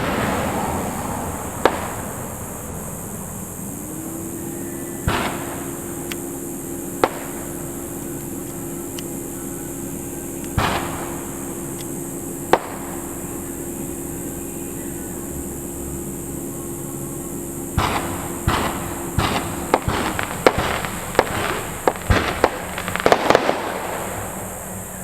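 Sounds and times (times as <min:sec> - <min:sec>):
crackling firework tail: 0:00.0 - 0:25.0
fireworks bursting: 0:00.0 - 0:25.0
steady low hum: 0:00.0 - 0:25.0.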